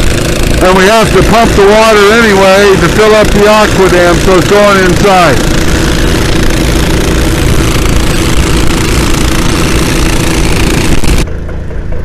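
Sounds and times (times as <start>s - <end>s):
engine-driven water pumps running: 0.0s - 12.0s.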